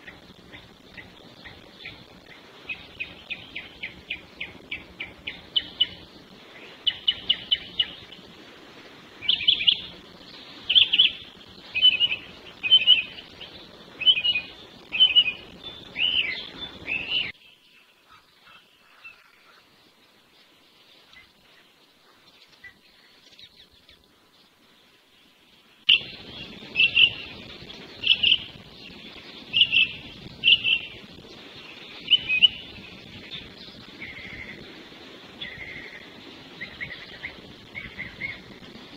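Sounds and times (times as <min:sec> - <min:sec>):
wild birds singing: 0:00.0 - 0:38.9.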